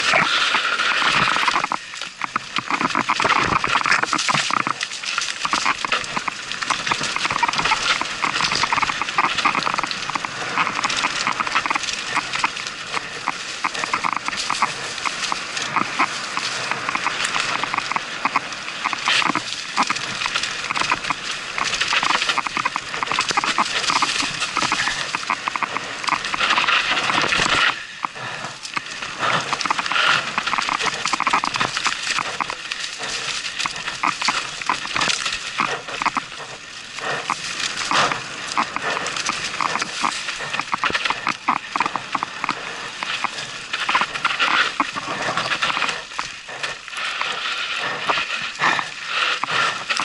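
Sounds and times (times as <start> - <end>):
mountain bike clattering and rattling: 0.0 - 48.8.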